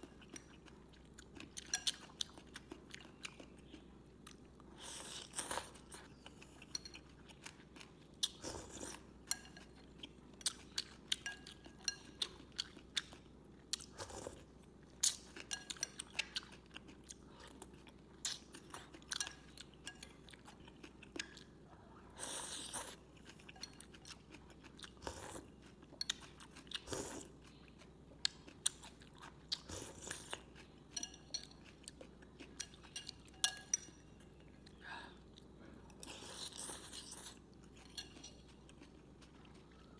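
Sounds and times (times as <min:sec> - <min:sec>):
person chewing noodles: 0:00.0 - 0:33.7, 0:34.4 - 0:39.9.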